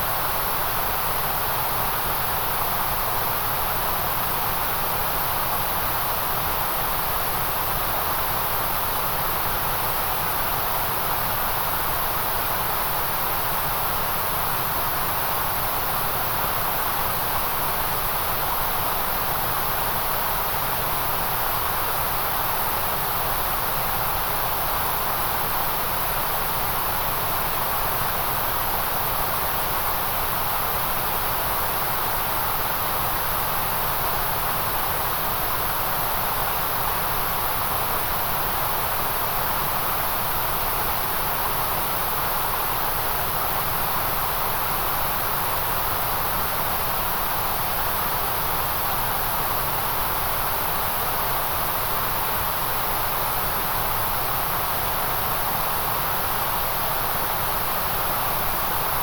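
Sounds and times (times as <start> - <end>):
synthetic white noise hiss: 0.0 - 59.0.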